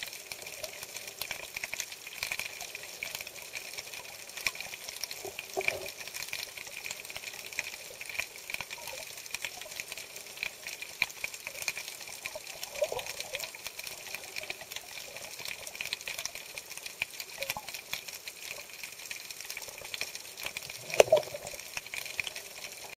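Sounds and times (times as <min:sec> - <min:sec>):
crackle of faint underwater clicks: 0:00.0 - 0:22.9.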